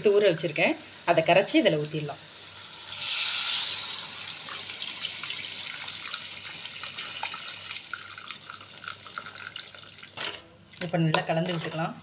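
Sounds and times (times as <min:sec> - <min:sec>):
liquid sizzling in hot oil: 0:00.0 - 0:10.9.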